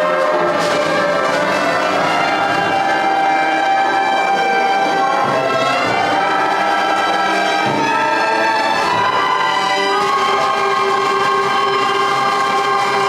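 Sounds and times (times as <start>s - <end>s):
concert band brass and woodwinds: 0.0s - 13.0s.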